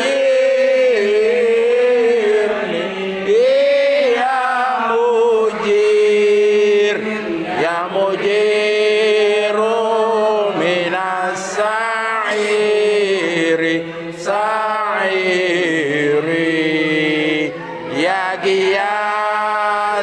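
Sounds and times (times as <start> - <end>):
voices chanting: 0.0 - 20.0.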